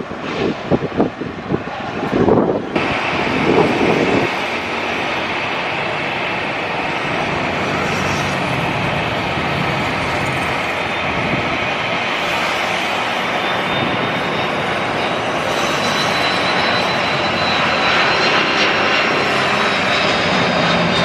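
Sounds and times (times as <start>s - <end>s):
airliner engines rushing: 0.0s - 21.0s.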